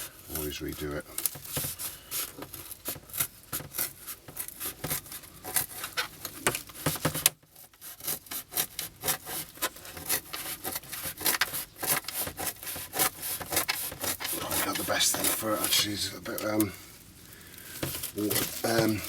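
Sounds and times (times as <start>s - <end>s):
sawing through paper board: 0.0s - 16.8s, 17.8s - 19.0s.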